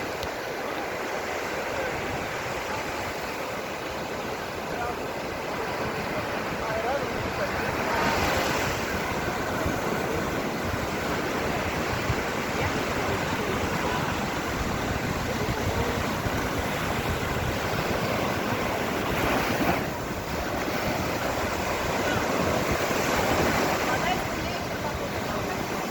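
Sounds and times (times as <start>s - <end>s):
surf washing on beach: 0.0s - 25.9s
wind on microphone: 0.0s - 25.9s.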